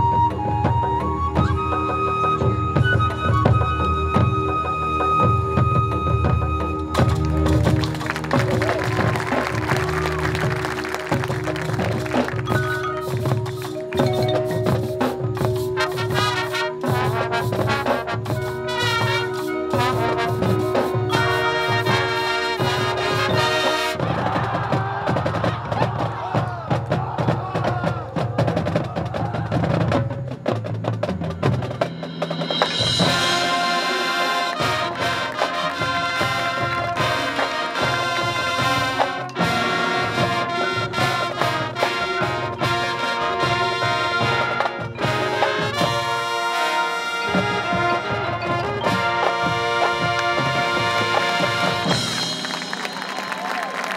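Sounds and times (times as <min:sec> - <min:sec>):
drumline bass drums and snares: 0:00.0 - 0:53.9
saxophones and brass playing: 0:02.4 - 0:26.4, 0:32.7 - 0:53.9.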